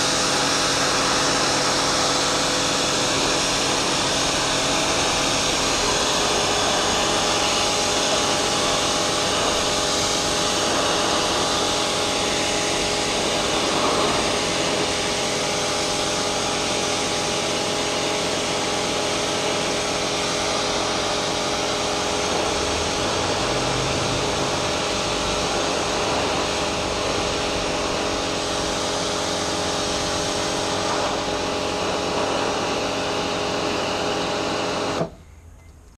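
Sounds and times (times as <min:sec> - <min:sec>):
high-pressure water jet hissing: 0:00.0 - 0:35.0
pressure washer motor and pump: 0:00.0 - 0:35.1.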